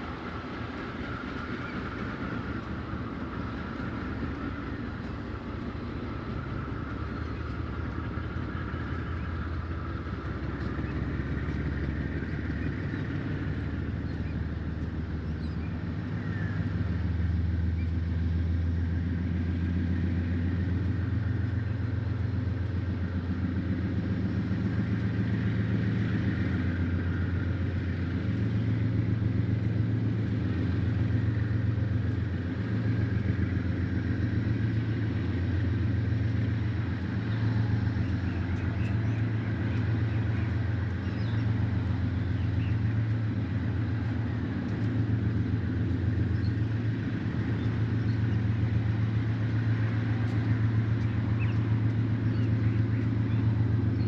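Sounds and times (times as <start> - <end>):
locomotive engines throbbing: 0.0 - 54.0.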